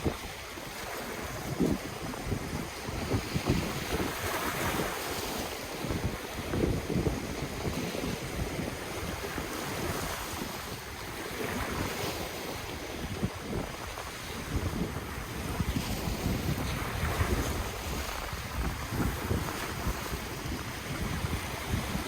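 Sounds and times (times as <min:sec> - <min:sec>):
ocean surf washing in: 0:00.0 - 0:22.0
wind buffeting microphone: 0:00.0 - 0:22.0.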